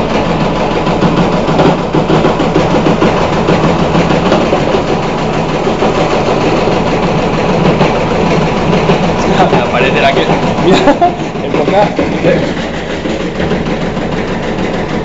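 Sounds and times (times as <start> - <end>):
washing machine rattling vibration: 0.0 - 15.0.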